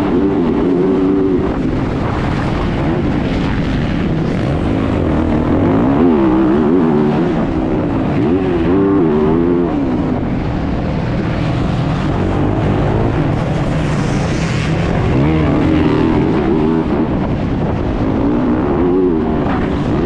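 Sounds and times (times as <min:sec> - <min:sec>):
motocross bike engine revving: 0:00.0 - 0:10.4, 0:11.4 - 0:20.0.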